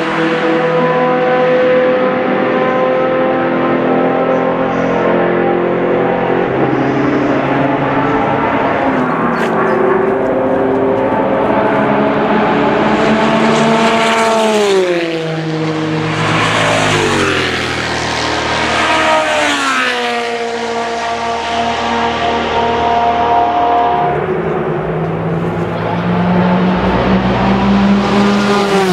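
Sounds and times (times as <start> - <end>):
race car engine running hard: 0.0 - 28.9.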